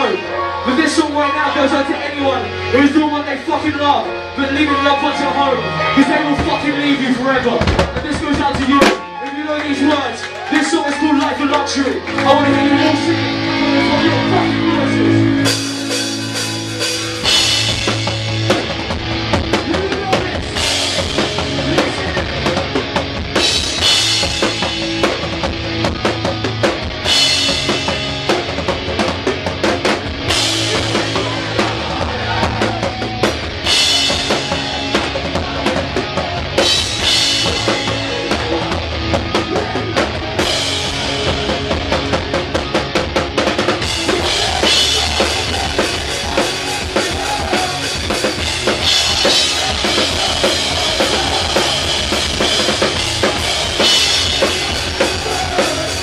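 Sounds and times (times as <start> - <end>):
hardcore band playing live: 0.0 - 56.0.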